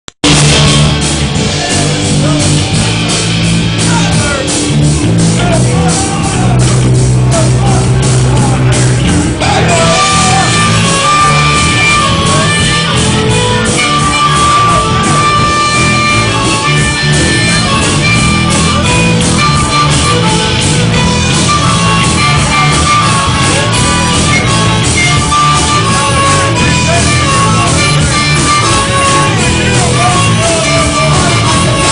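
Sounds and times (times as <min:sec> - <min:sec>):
drum beat: 0:00.2 - 0:31.9
electric guitar: 0:00.2 - 0:31.9.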